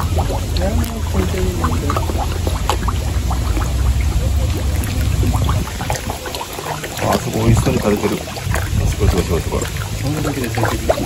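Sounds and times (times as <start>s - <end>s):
fish splashing and gulping: 0.0s - 11.0s
low rumble: 0.0s - 11.0s.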